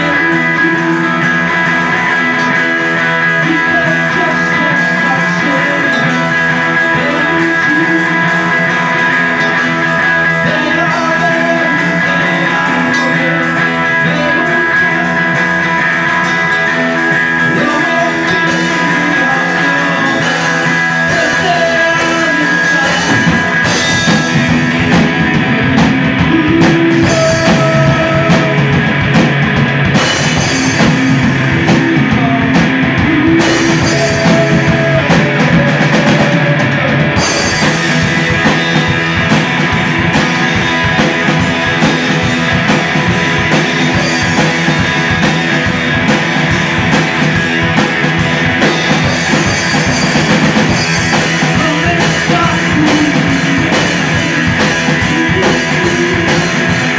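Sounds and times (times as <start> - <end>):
distorted electric guitar: 0.0 - 56.9
pounding drum kit: 0.0 - 56.9.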